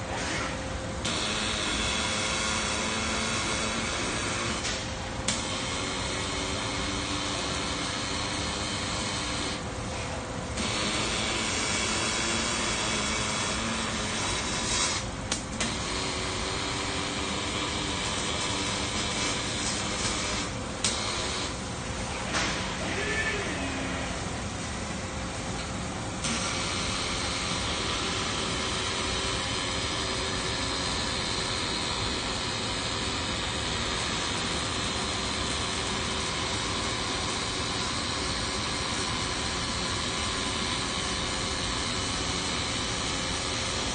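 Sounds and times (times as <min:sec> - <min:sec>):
machinery hiss and hum: 0:00.0 - 0:43.9.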